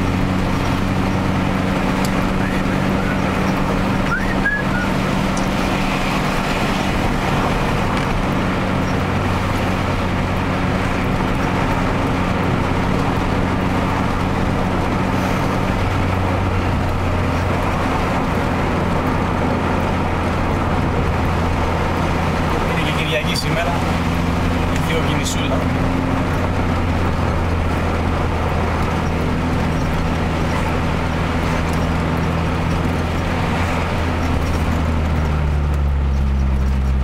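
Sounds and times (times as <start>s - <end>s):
car engine and tyre drone: 0.0s - 37.0s.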